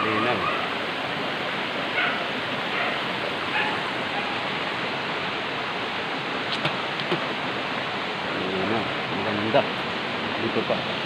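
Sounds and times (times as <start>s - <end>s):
stream water over rocks: 0.0s - 11.0s.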